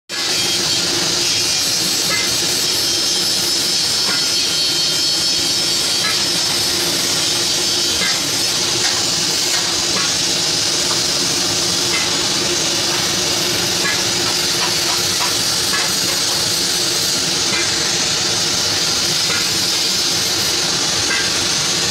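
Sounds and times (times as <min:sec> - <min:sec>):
blowtorch flame hissing: 0:00.1 - 0:21.9.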